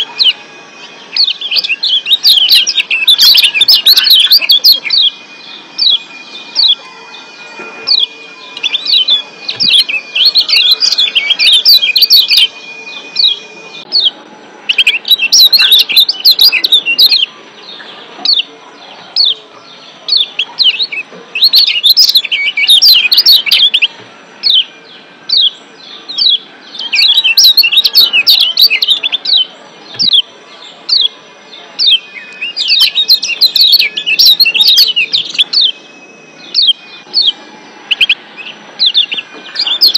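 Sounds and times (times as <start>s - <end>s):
thin steady high tone: 0.0s - 39.9s.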